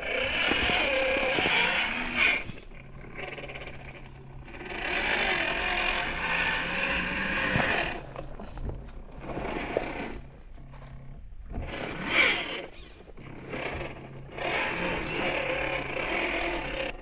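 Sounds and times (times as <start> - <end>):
toy car motor and gears whirring: 0.0 - 17.0.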